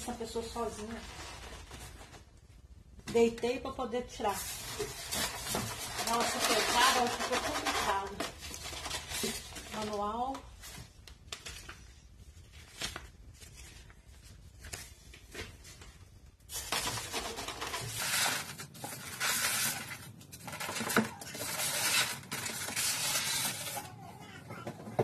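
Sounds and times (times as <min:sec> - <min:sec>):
packaging rustling and scraping: 0:00.0 - 0:02.4, 0:04.2 - 0:25.0.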